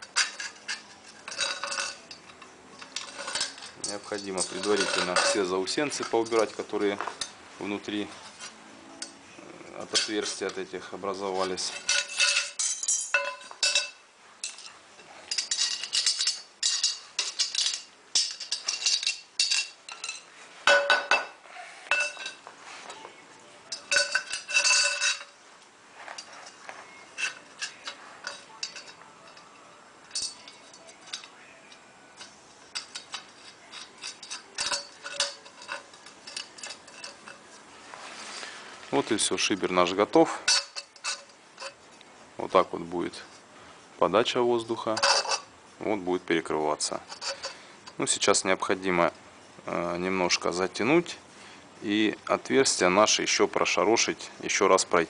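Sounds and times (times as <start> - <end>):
steel parts and tools clinking: 0.0 - 43.4, 44.2 - 49.1
metal scraping: 0.0 - 43.5, 44.1 - 48.7.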